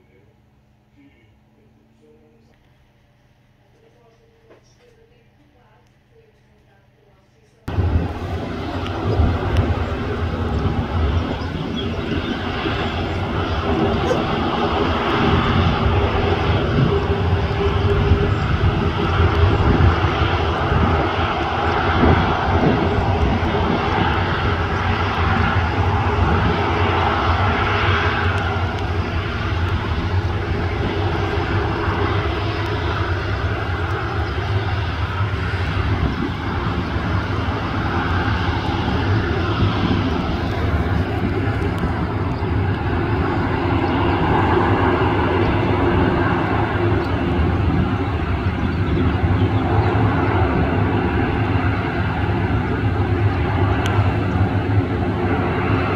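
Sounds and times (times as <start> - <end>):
jet engines rolling on runway: 7.6 - 55.9.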